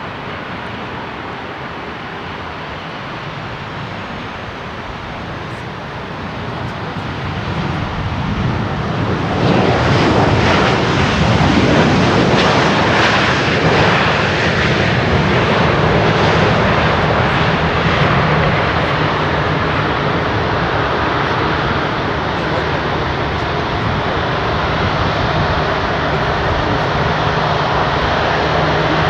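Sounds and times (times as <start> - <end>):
jet engines of landing plane: 0.0 - 29.0.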